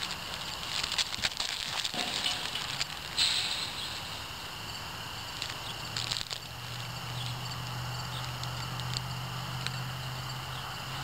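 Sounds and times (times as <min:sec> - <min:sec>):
crackles and rustles in grass: 0:00.0 - 0:11.0
steady low hum: 0:00.0 - 0:11.0.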